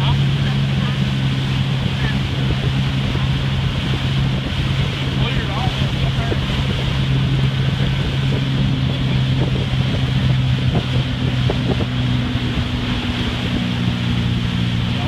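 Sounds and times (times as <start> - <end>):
motorboat engine running: 0.0 - 15.0
wind buffeting microphone: 0.0 - 15.0.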